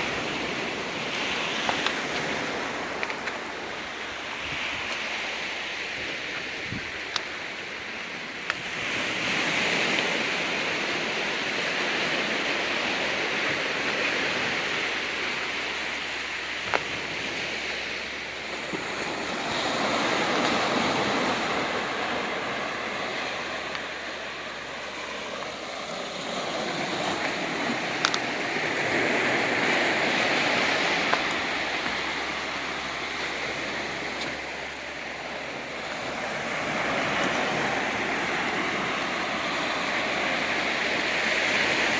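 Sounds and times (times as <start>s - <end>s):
ocean waves on rocky shore: 0.0s - 41.9s.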